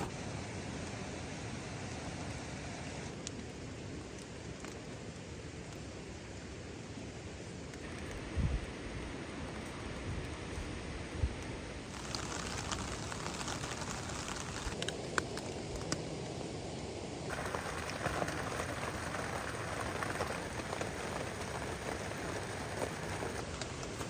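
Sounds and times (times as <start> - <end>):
rain on a tarp: 3.0 - 16.6, 17.3 - 24.0.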